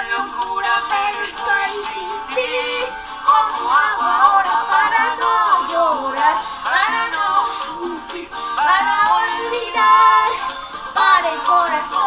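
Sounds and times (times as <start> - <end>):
song with sung lead vocal: 0.0 - 12.0.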